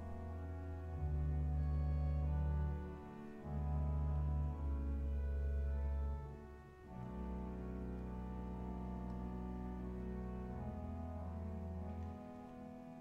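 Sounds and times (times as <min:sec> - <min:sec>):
pipe organ chords: 0:00.0 - 0:13.0.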